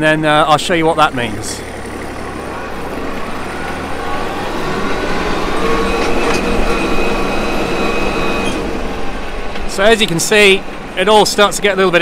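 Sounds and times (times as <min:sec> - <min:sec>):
tractor diesel engine: 0:00.0 - 0:12.0.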